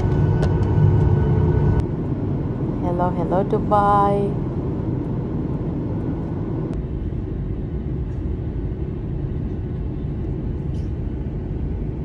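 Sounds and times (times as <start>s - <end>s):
jet engine roar in cabin: 0.0s - 12.0s.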